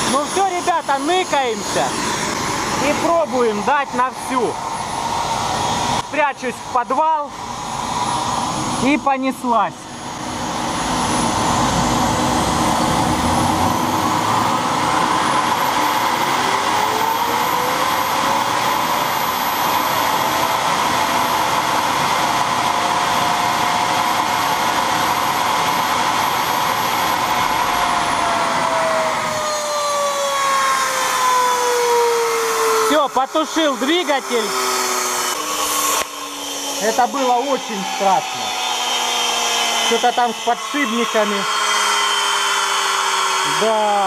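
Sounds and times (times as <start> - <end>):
turbine engine roar and whine: 0.0 - 44.0.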